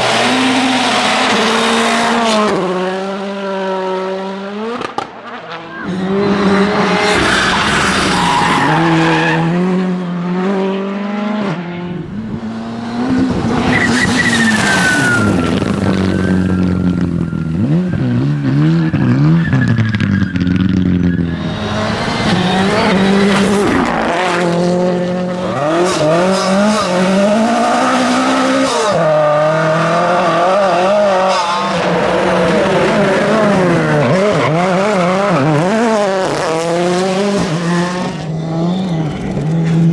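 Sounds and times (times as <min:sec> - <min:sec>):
cars passing: 0:00.0 - 0:39.9
rally car engines revving: 0:00.0 - 0:39.9
tyres skidding: 0:04.8 - 0:09.8, 0:12.0 - 0:39.9.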